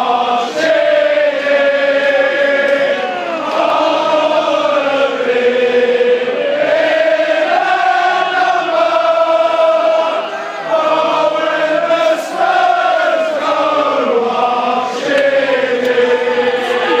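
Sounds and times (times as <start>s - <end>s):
football crowd chanting: 0.0s - 17.0s.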